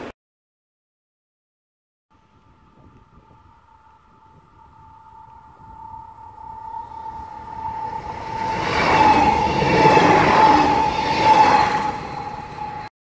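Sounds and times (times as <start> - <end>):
steady high tone: 2.1 - 12.9
train passing: 2.2 - 12.9.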